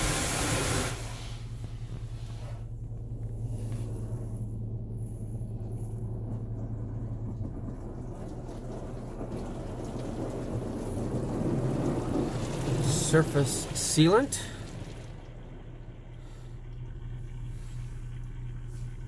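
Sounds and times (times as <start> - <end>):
low hum: 0.0 - 19.0
muffled water spray rush: 0.0 - 19.0.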